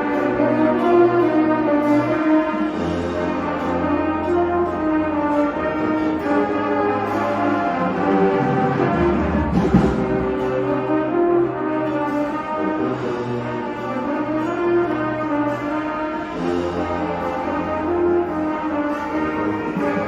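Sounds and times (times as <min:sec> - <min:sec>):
brass music: 0:00.0 - 0:20.0.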